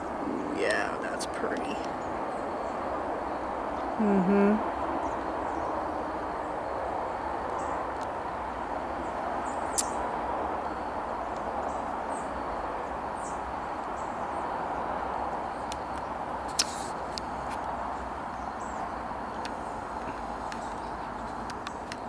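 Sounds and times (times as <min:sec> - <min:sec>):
steady outdoor noise: 0:00.0 - 0:22.0.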